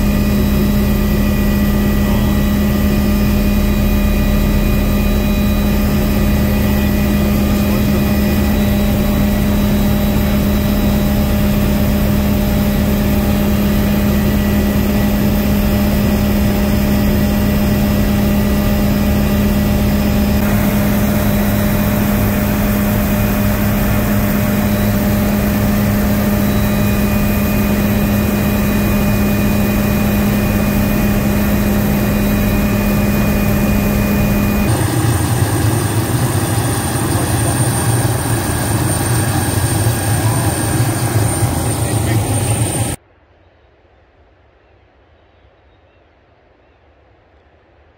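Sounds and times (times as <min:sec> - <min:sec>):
helicopter engine and rotor: 0:00.0 - 0:43.0.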